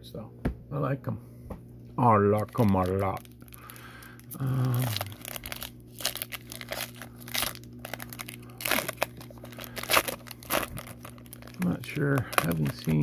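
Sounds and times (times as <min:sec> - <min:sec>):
foil wrapper tearing and crinkling: 0:02.2 - 0:13.0.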